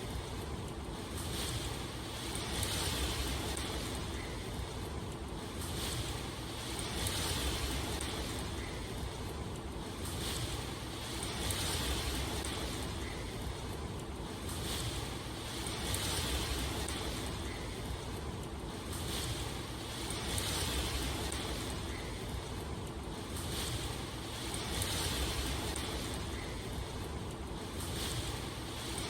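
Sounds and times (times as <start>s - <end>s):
rain hissing: 0.0s - 29.0s.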